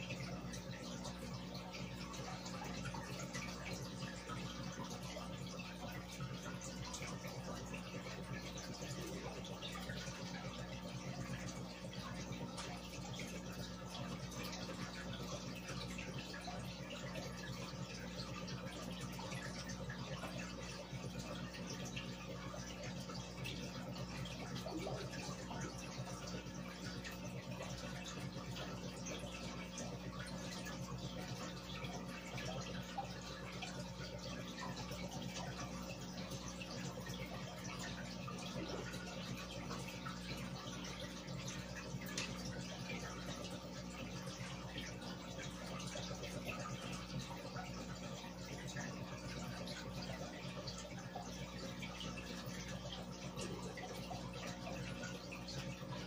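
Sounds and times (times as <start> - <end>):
air bubbles fizzing in water: 0.0 - 56.0
low steady hum: 0.0 - 56.0.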